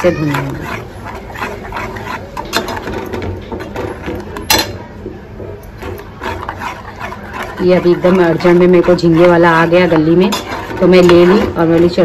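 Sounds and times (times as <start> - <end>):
metal spatula scraping a pot: 0.0 - 4.8, 5.7 - 12.0.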